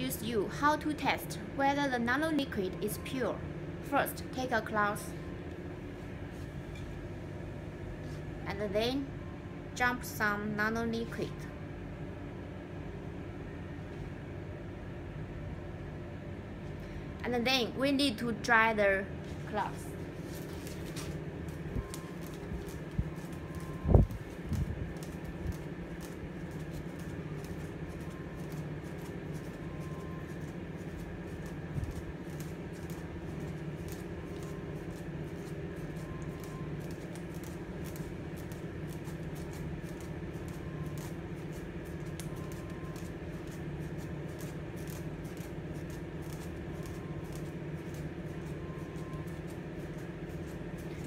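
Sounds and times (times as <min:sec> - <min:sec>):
electrical hum: 0:00.0 - 0:51.0
fan noise: 0:00.0 - 0:51.0.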